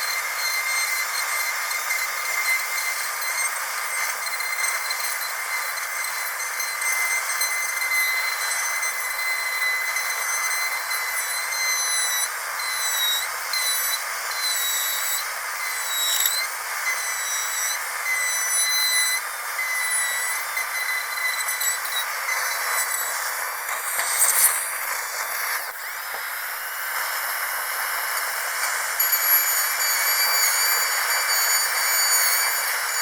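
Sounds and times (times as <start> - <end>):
dental drill whining: 0.0 - 33.0.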